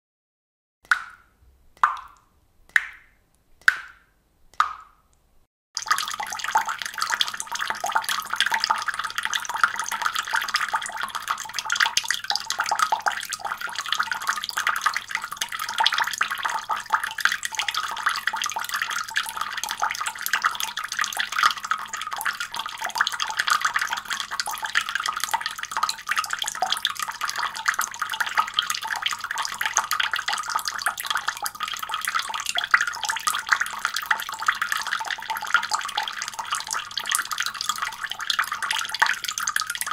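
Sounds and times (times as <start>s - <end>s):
water running in a stream: 5.8s - 39.9s.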